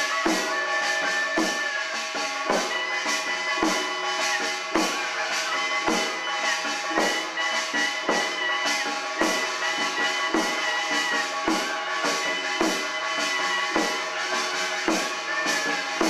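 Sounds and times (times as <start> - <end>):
wavering high melody: 0.0 - 16.0.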